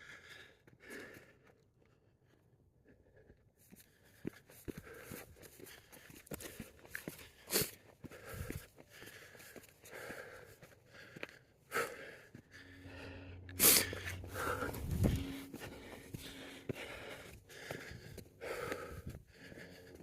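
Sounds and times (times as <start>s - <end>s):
person gasping for breath: 3.7s - 20.0s.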